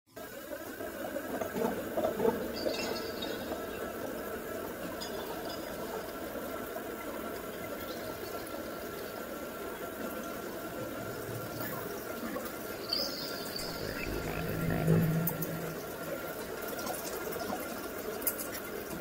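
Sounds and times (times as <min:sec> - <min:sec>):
water trickling and bubbling: 0:00.3 - 0:19.0.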